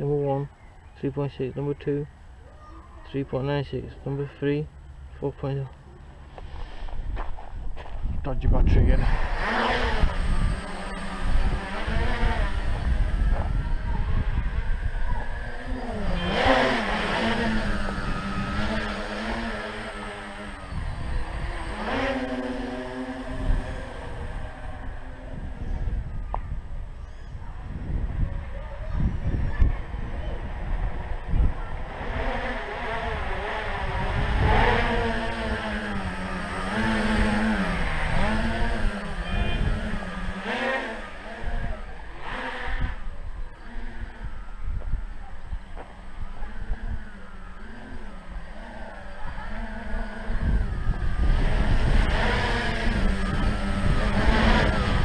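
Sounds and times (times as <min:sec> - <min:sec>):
drone motors whining: 0:05.7 - 0:55.0.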